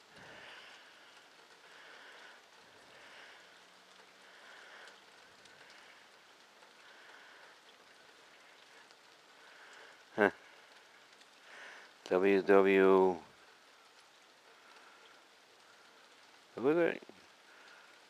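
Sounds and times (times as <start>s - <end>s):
faint rain falling: 0.0s - 18.0s
soft drip ticks: 0.0s - 18.0s.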